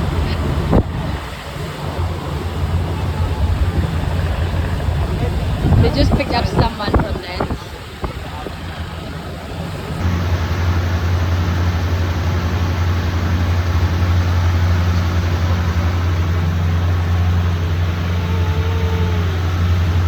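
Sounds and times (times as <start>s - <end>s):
motorboat engine droning: 0.0s - 20.0s.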